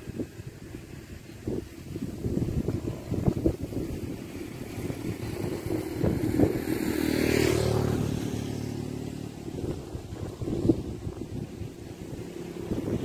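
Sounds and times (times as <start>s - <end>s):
wind buffeting microphone: 0.0s - 13.0s
vehicle engine passing by: 0.3s - 13.0s.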